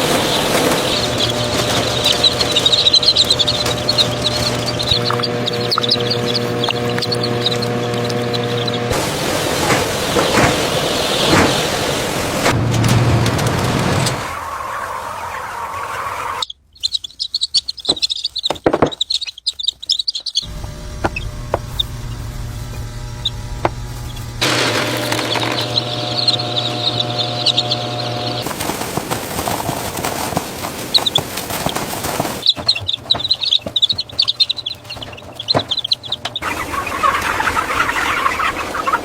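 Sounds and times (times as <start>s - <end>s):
chicks cheeping: 0.0s - 12.6s, 13.3s - 39.0s
low mechanical hum: 0.0s - 14.4s, 20.3s - 39.0s.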